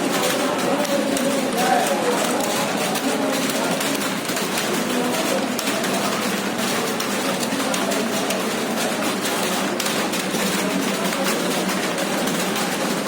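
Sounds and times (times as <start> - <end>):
keyboards clattering: 0.0 - 13.0.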